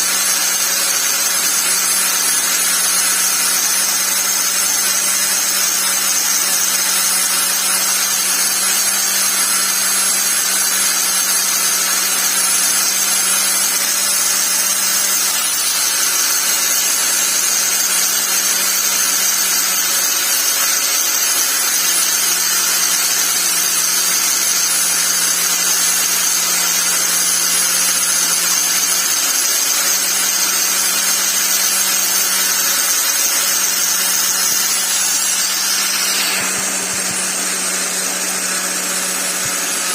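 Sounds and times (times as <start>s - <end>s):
angle grinder grinding: 0.0s - 39.9s.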